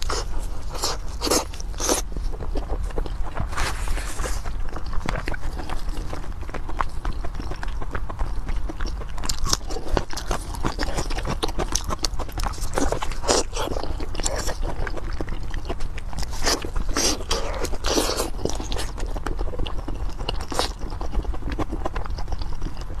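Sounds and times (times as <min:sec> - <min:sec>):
chewing and mouth smacks: 0:00.0 - 0:23.0.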